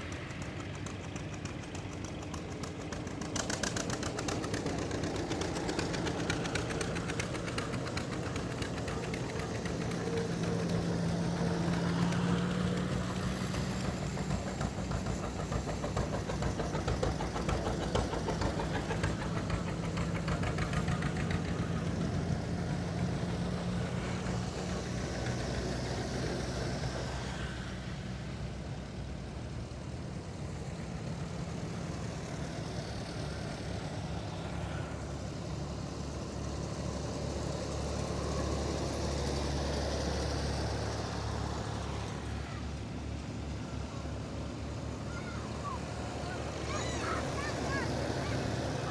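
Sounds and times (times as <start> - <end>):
tractor engines running: 0.0 - 48.9.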